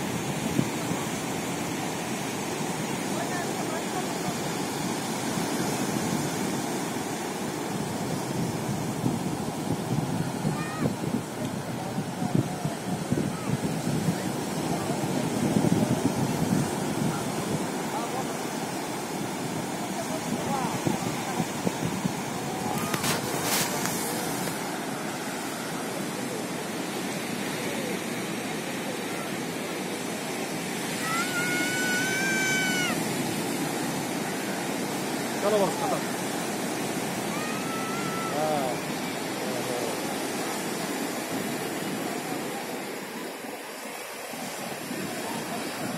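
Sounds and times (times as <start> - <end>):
small waves breaking on sand: 0.0 - 45.9
surf washing up beach: 0.0 - 45.9.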